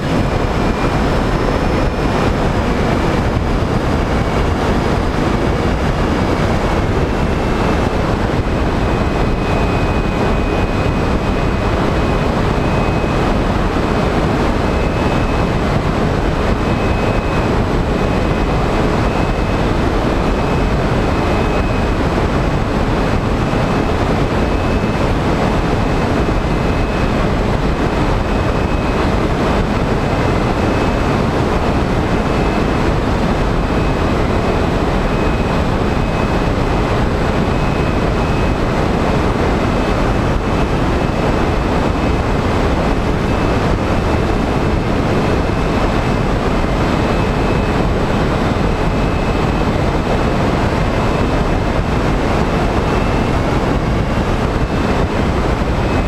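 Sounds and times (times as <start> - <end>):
electric motor and propeller whine: 0.0 - 56.0
wind rush over microphone: 0.0 - 56.0.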